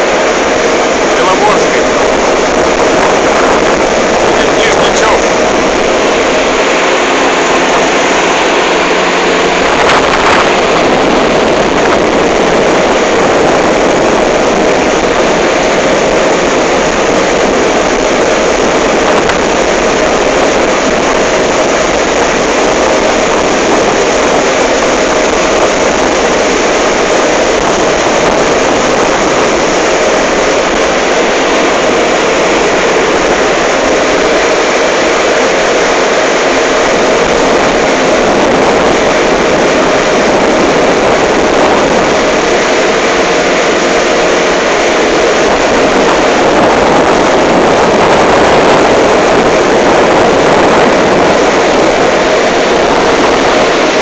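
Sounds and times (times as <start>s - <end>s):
motorboat engine drone: 0.0s - 54.0s
rushing water noise: 0.0s - 54.0s.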